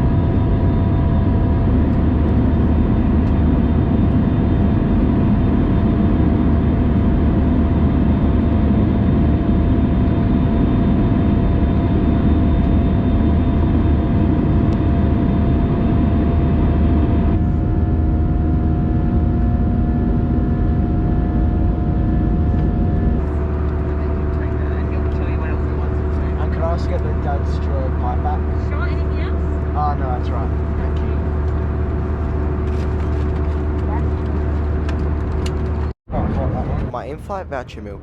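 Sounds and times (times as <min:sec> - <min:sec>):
jet engine roar in cabin: 0:00.0 - 0:38.0.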